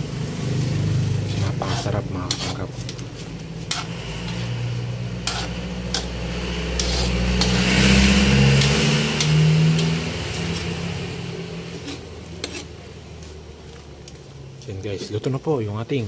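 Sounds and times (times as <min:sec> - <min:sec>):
vehicle engine passing by: 0:00.0 - 0:14.6
stew simmering: 0:00.1 - 0:15.4.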